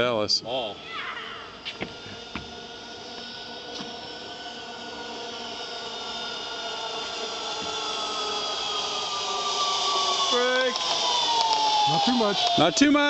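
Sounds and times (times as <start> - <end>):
zipline pulleys whining on cable: 0.0 - 13.0.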